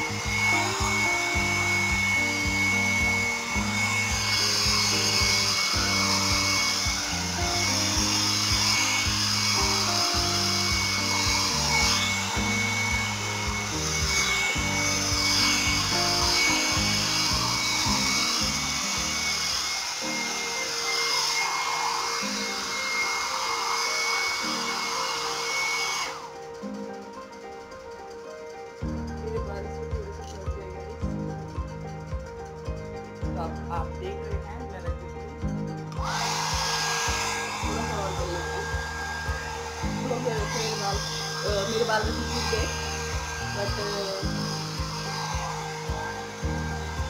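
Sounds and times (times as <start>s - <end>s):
hair dryer blowing: 0.0s - 47.0s
instrumental music: 0.0s - 47.0s.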